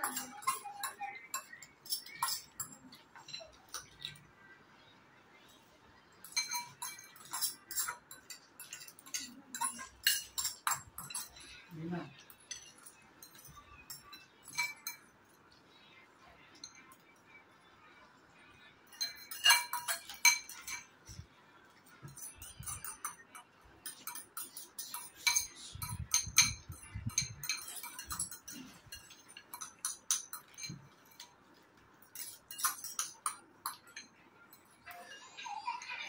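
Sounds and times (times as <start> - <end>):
utensils clinking on ceramic bowls: 0.0 - 5.6, 6.2 - 17.3, 18.6 - 36.0.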